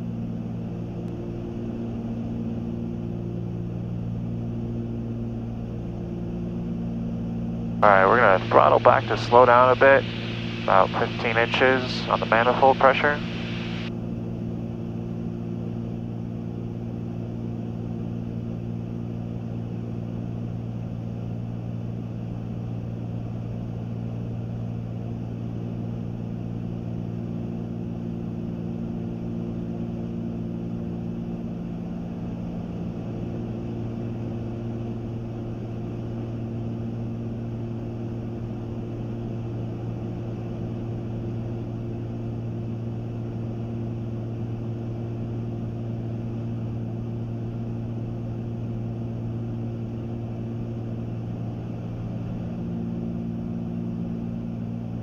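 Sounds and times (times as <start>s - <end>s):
aircraft engines cabin drone: 0.0s - 55.0s.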